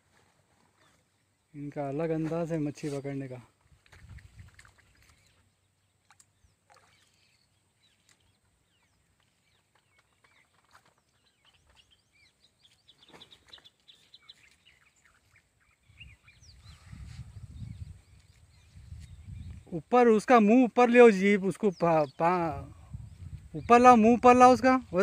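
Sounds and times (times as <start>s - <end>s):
small birds chirping: 0.7s - 20.4s, 21.4s - 25.0s.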